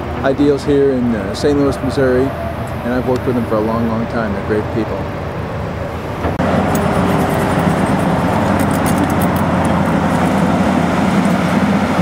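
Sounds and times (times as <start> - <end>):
highway traffic passing at speed: 0.0 - 12.0.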